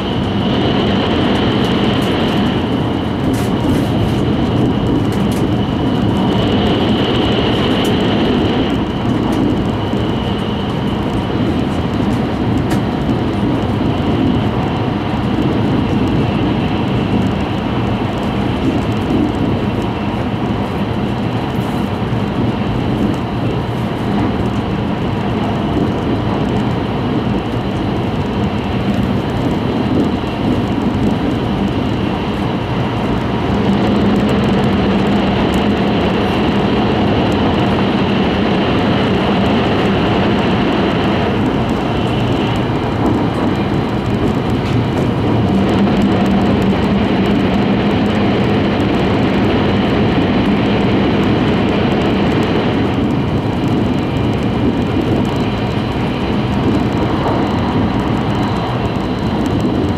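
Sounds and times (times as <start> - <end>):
train cabin rumble and rush: 0.0 - 59.9.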